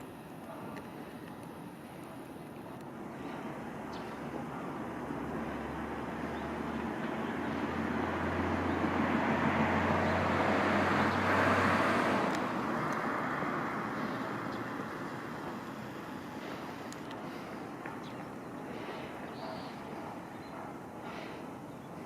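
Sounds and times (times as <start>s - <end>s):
road vehicle passing by: 2.0s - 22.0s.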